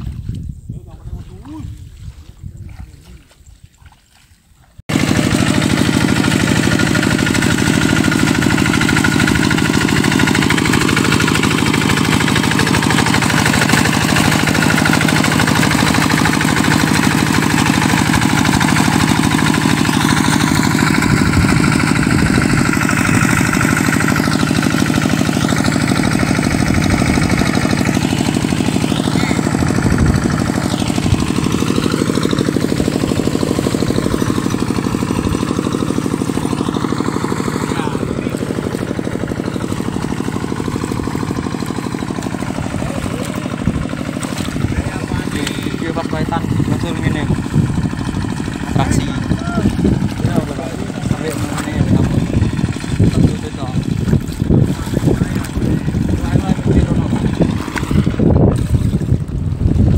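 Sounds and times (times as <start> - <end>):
wheels churning through mud: 0.0 - 59.9
diesel engine running: 4.9 - 59.9.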